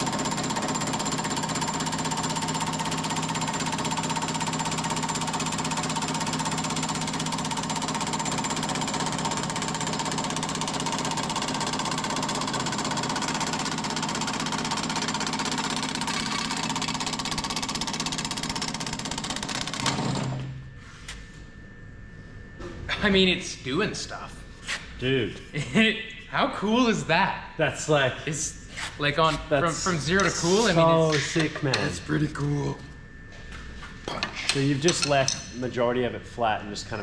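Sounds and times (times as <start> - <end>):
steady motor hum: 0.0 - 37.0.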